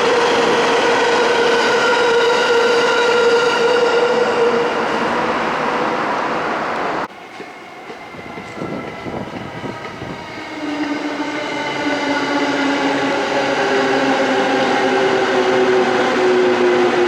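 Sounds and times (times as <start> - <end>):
electric train rushing: 0.0 - 17.0.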